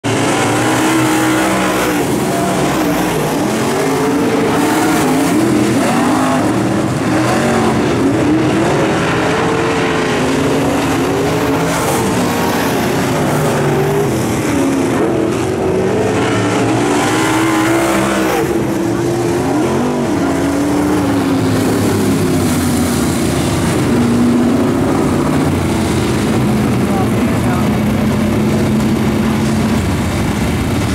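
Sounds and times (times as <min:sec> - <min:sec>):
race car engines revving: 0:00.0 - 0:30.9.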